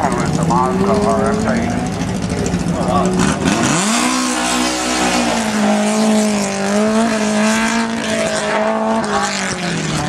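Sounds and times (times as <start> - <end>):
race car engine at high revs: 0.0 - 10.0.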